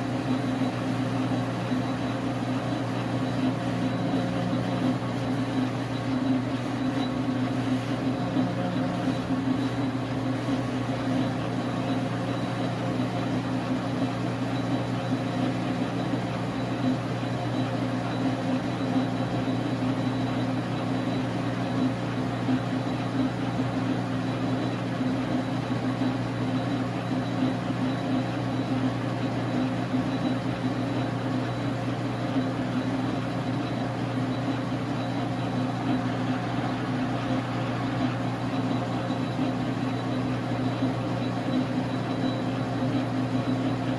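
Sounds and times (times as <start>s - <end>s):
lathe humming: 0.0s - 43.9s.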